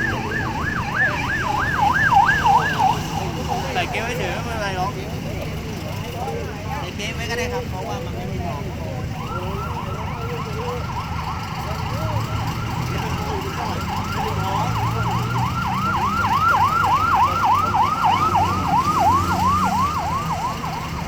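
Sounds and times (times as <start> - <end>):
siren yelping: 0.0 - 5.2, 8.5 - 21.0
low engine rumble: 0.0 - 21.0.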